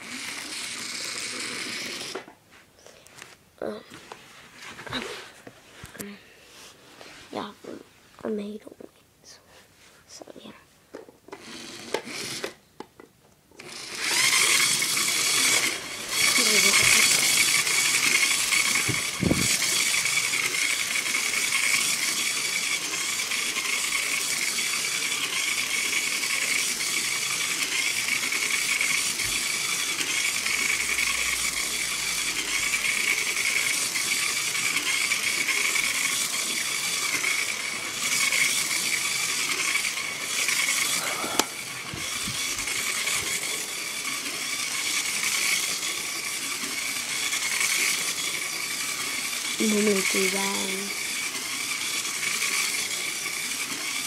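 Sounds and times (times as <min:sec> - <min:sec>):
toy train motor whine: 0:00.0 - 0:02.3, 0:11.3 - 0:12.6, 0:13.6 - 0:54.0.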